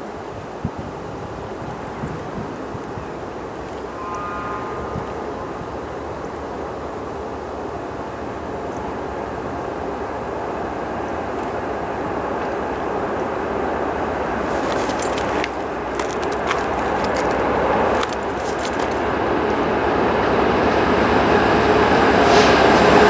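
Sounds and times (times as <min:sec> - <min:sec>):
diesel locomotive engines running: 0:00.0 - 0:23.0.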